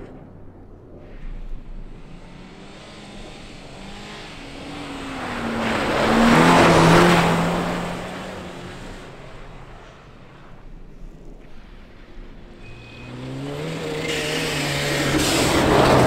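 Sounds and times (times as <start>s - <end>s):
tyres rushing on icy track: 1.0s - 16.0s
car engine passing at speed: 1.1s - 10.6s, 11.9s - 16.0s.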